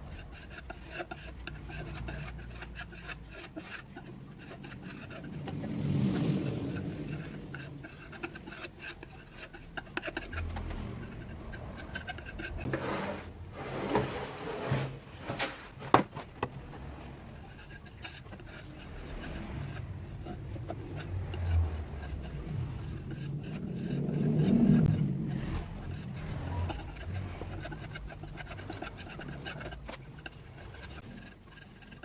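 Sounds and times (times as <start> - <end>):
rubbing and scraping: 0.0 - 32.0.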